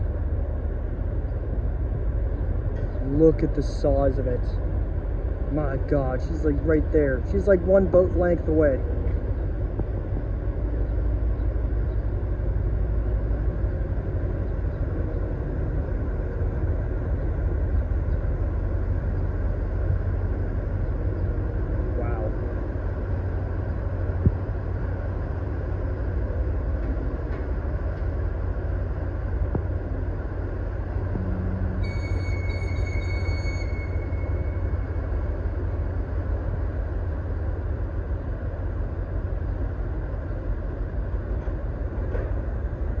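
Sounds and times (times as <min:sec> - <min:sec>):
ship engine rumble: 0:00.0 - 0:43.0.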